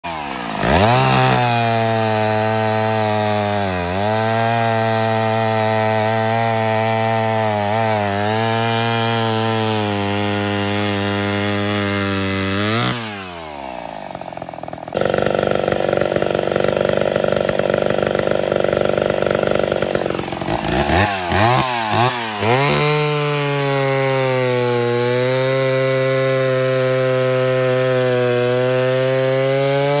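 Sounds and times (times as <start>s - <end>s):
chainsaw cutting log: 0.0s - 30.0s
chainsaw revving unloaded: 0.0s - 30.0s.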